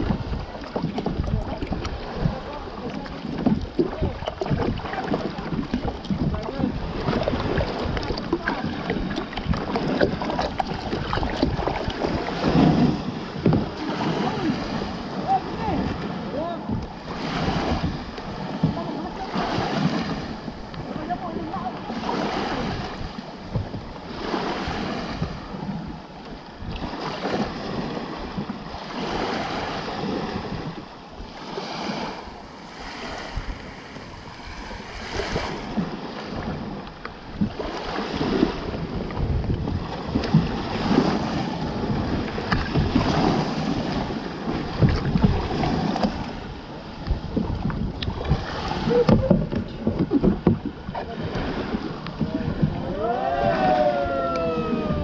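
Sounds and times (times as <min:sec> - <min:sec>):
waves lapping against kayak hull: 0:00.0 - 0:55.0
wind on microphone: 0:00.0 - 0:55.0.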